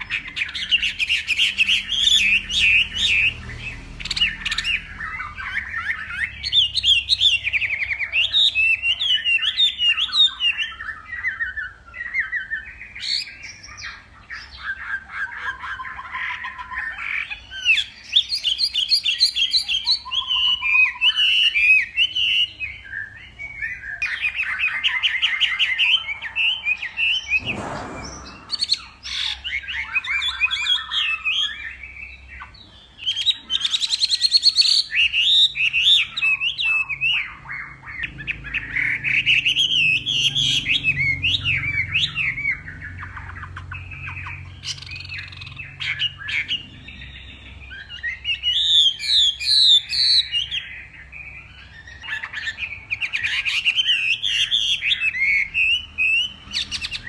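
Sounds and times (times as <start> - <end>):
bird singing: 0.0 - 57.0.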